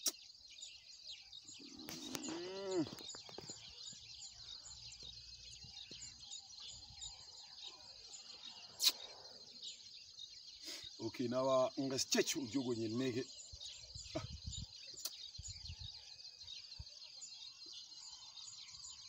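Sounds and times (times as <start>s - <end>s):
high chirping from grass: 0.0s - 19.0s.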